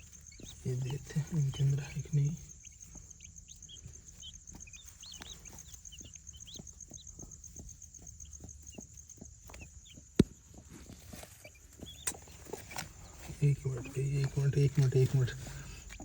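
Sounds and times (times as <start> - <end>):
chicks peeping: 0.0 - 16.0
soft knocks and shuffling: 0.0 - 16.0.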